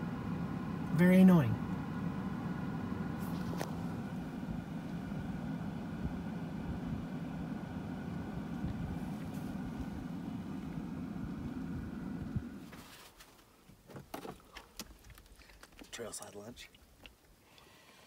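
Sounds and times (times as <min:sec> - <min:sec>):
vehicle engine and tyres rumbling: 0:00.0 - 0:15.9.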